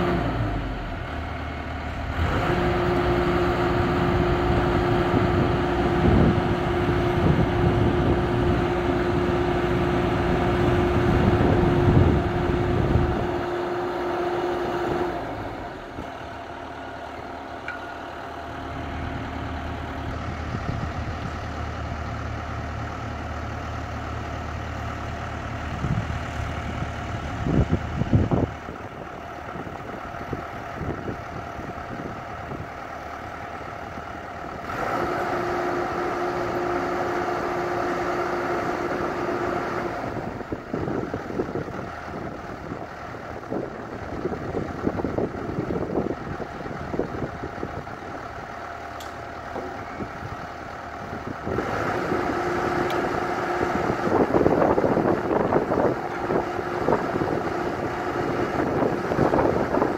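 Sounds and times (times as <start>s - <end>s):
excavator engine running: 0.0s - 59.9s
hydraulics under load tone: 0.0s - 59.9s.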